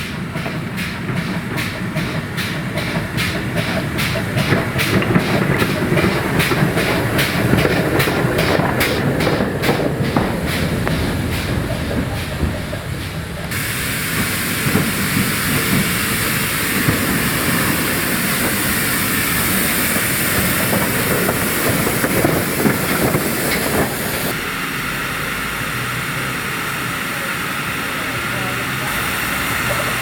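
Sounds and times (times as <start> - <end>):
train knocking and clattering: 0.0 - 24.5, 26.6 - 30.0
steam hissing: 0.0 - 30.0.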